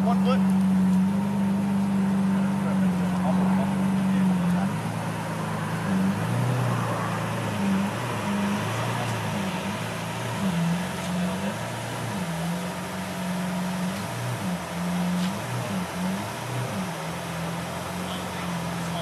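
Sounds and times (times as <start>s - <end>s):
car engine at low revs: 0.0s - 19.0s.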